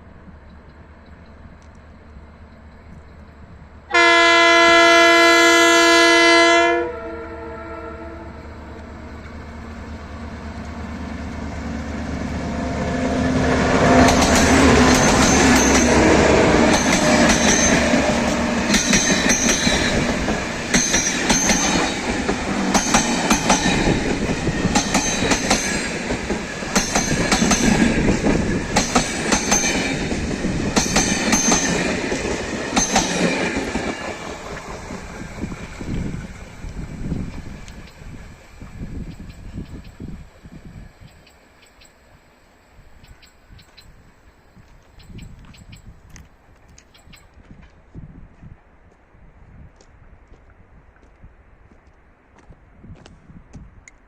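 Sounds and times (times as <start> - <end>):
diesel locomotive passing: 0.0 - 47.1.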